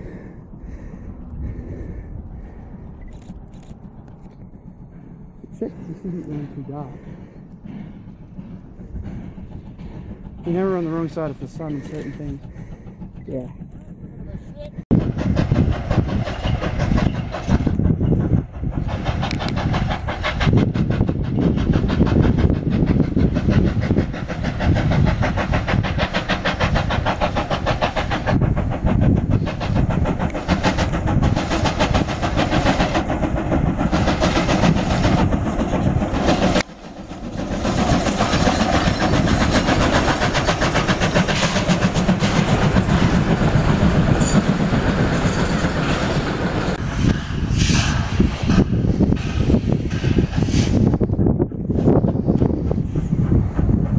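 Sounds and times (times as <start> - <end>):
steam locomotive exhaust beating: 0.0 - 53.9
train rumbling on rails: 0.0 - 53.9.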